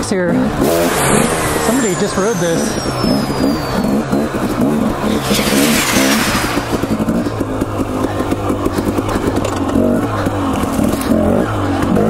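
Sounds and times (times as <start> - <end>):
dirt bike engine revving: 0.1 - 12.0.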